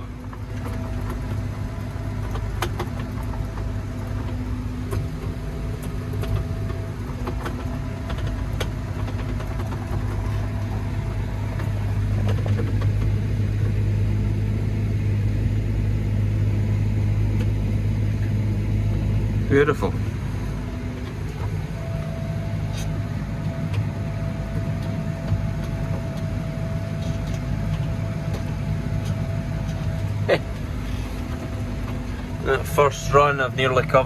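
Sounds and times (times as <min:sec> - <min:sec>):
tractor engine droning: 0:00.0 - 0:34.0.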